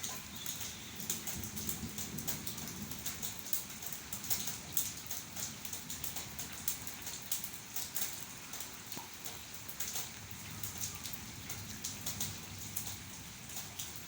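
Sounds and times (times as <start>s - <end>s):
rain drops pattering: 0.0s - 14.0s.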